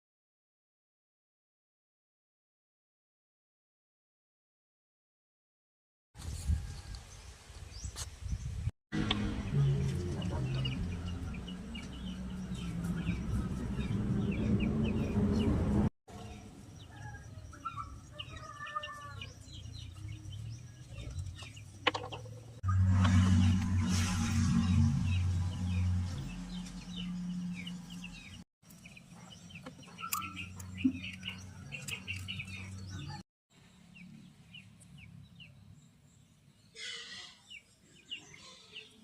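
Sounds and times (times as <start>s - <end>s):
birds chirping and warbling: 6.5s - 39.0s.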